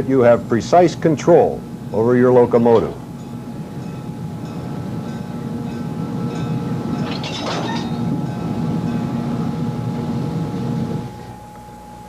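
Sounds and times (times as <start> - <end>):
diesel locomotive rumbling: 0.0 - 11.4.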